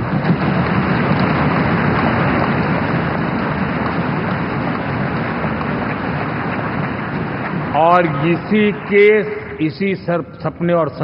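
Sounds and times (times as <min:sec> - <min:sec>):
large audience applauding: 0:00.0 - 0:10.1.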